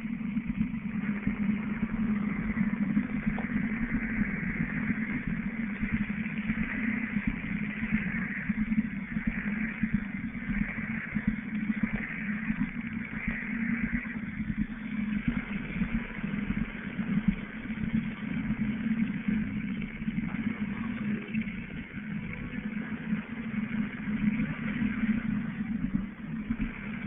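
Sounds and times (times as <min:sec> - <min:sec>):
pulsing interference buzz from speaker: 0:00.0 - 0:27.0.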